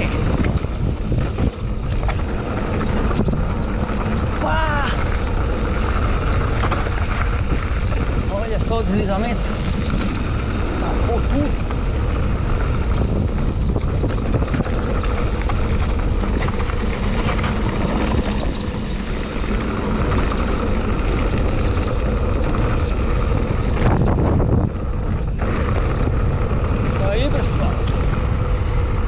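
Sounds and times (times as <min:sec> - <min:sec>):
bike tyres rumbling and rattling: 0:00.0 - 0:29.0
wind buffeting microphone: 0:00.0 - 0:29.0.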